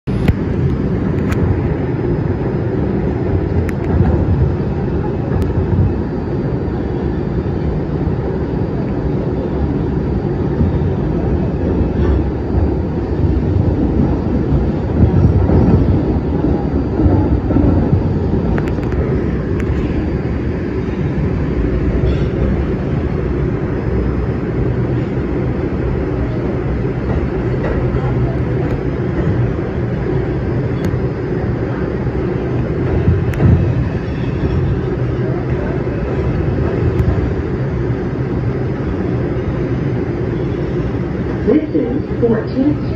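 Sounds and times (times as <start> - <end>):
subway train rumbling in tunnel: 0.0 - 42.9.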